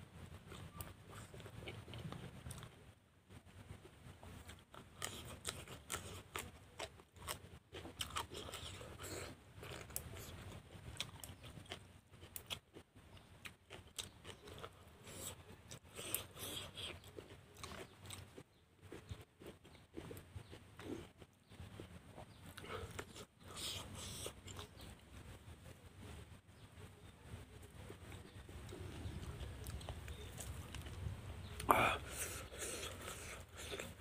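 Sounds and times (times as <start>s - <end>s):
person chewing food: 0.3s - 2.8s, 4.2s - 25.3s, 27.7s - 34.0s.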